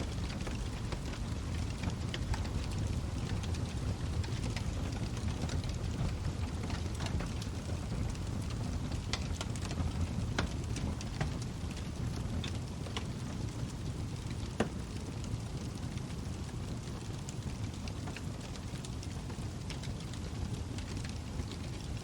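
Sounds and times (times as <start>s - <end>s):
burning wood crackling and popping: 0.0s - 22.0s
low rumble of flames: 0.0s - 22.0s.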